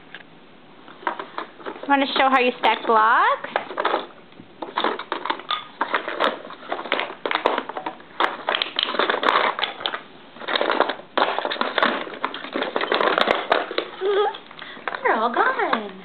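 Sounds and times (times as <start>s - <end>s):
cardboard crunching and crinkling: 1.0s - 15.9s.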